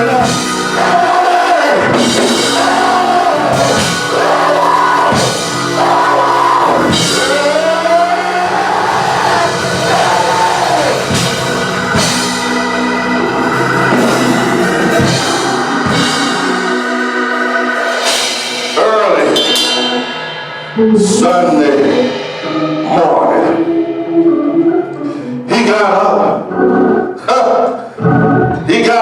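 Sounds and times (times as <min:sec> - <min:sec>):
drum kit and cymbals: 0:00.0 - 0:24.2
person singing long sliding notes: 0:00.0 - 0:28.8
keyboard chords: 0:00.0 - 0:29.0.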